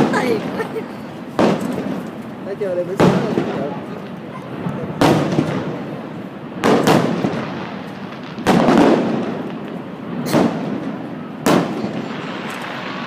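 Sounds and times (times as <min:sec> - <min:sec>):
firework shells bursting: 0:00.0 - 0:06.0, 0:06.6 - 0:13.0.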